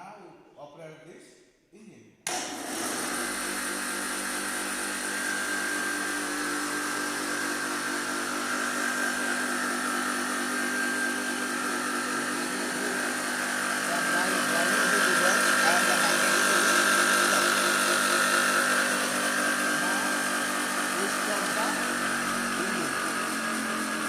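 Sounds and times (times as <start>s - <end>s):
grinding machine humming: 2.3s - 24.0s.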